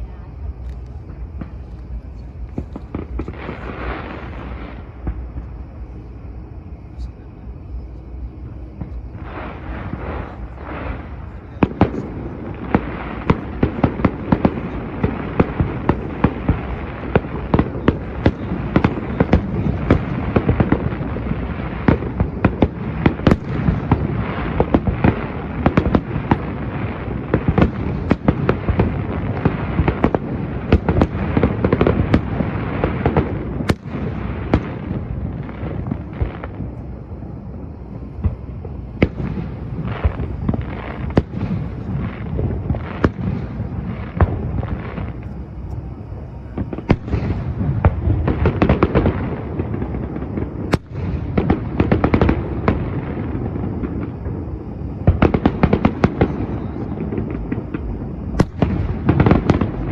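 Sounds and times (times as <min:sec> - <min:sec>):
fireworks bangs and crackles: 0:00.0 - 0:59.9
steady rumble: 0:00.0 - 0:59.9.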